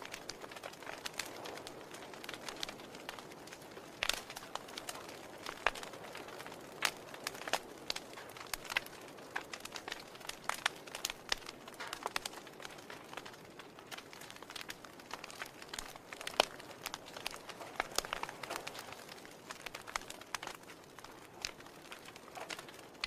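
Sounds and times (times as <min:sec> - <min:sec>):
logs crackling in fire: 0:00.0 - 0:23.0
soft fire hiss: 0:00.0 - 0:23.0.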